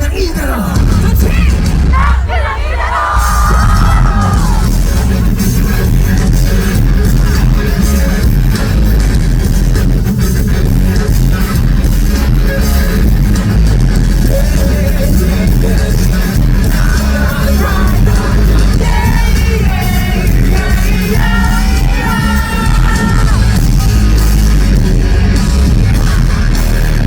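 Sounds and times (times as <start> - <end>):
rock band playing live: 0.0 - 2.3, 3.2 - 27.0.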